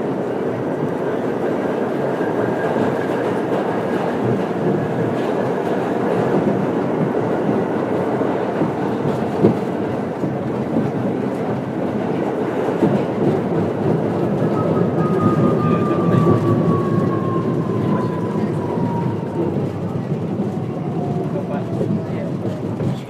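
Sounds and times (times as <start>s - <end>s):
subway train rumbling on track: 0.0s - 23.0s.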